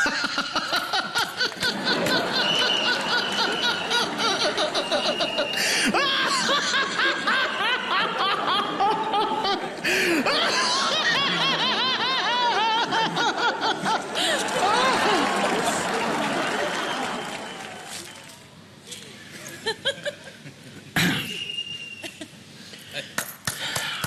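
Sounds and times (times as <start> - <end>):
people laughing: 0.0 - 17.9, 19.3 - 21.0.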